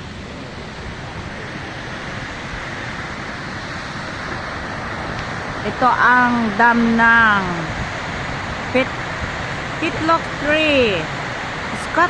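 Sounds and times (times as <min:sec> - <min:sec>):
water rushing through dam: 0:00.0 - 0:12.0.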